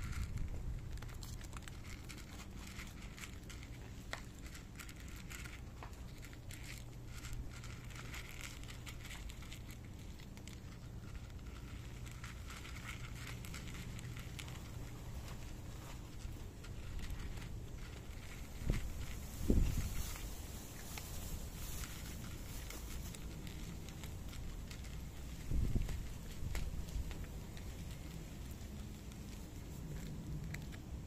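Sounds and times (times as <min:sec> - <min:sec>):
cats crunching dry kibble: 0:00.0 - 0:31.0
low background rumble: 0:00.0 - 0:31.0.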